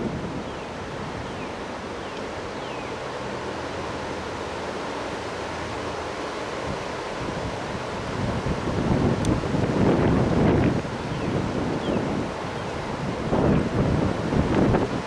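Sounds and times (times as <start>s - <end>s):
wind rushing through trees: 0.0s - 15.0s.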